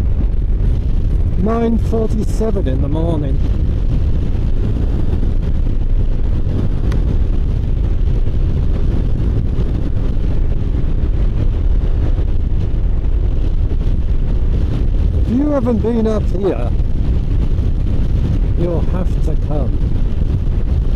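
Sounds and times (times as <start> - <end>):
wind rumble on microphone: 0.0 - 20.9.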